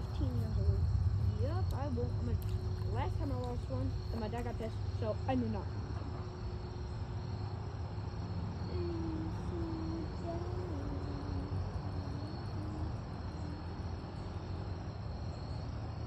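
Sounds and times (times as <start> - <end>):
crickets trilling: 0.0 - 16.0
low outdoor rumble: 0.0 - 16.0.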